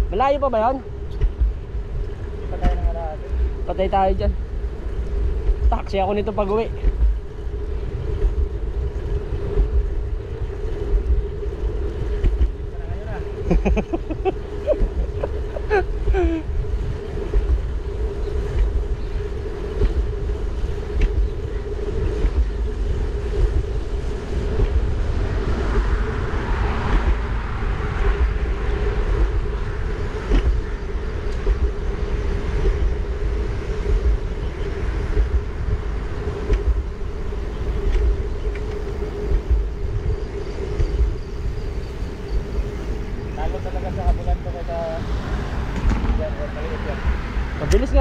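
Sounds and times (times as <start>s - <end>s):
steady hum: 0.0s - 48.0s
wind buffeting microphone: 0.0s - 48.0s.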